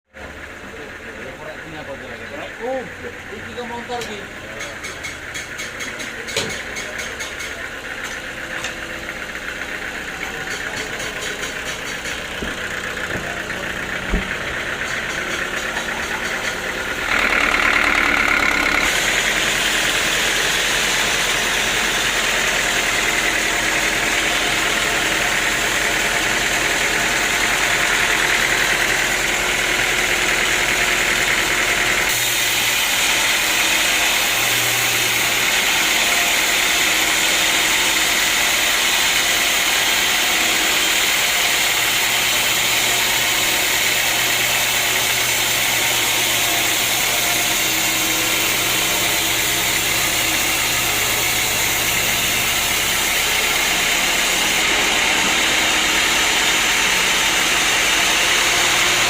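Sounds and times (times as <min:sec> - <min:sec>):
sawmill machinery running: 0:00.1 - 0:59.0.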